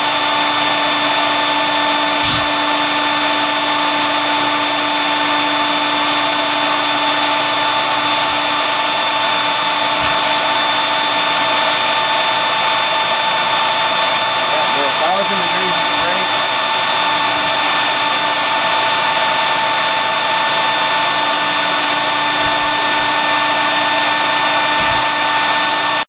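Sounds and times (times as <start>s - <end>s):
electric blower motor whining: 0.0s - 26.0s.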